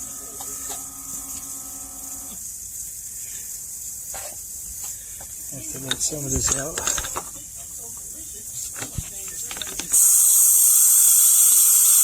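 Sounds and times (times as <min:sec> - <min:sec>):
electric air pump humming: 0:00.0 - 0:07.4, 0:08.0 - 0:12.0
faint hiss: 0:00.0 - 0:12.0.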